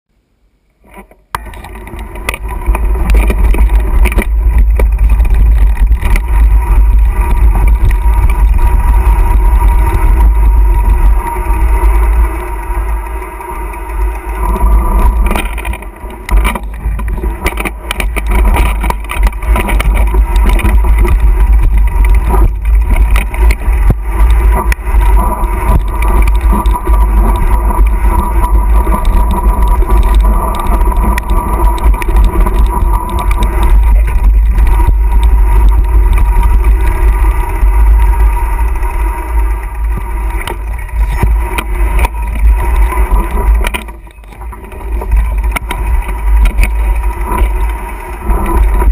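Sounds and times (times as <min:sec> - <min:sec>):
bike rattling and knocking: 0:01.4 - 0:48.9
wind buffeting microphone: 0:01.7 - 0:48.9.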